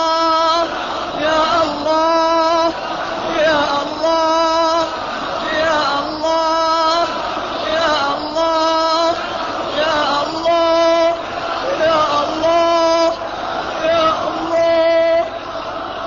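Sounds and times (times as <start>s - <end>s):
person chanting a supplication: 0.0s - 15.5s.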